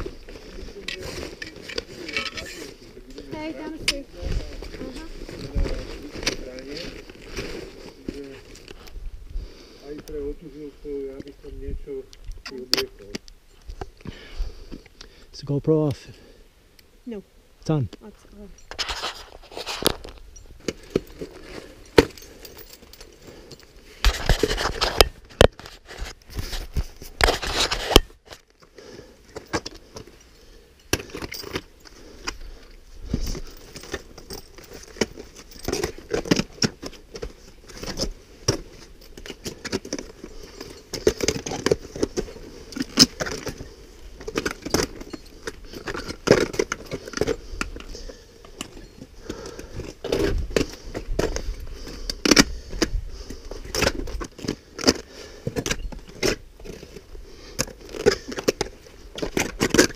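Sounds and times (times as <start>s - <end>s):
metal climbing gear clinking: 0.0s - 8.9s, 18.5s - 59.9s.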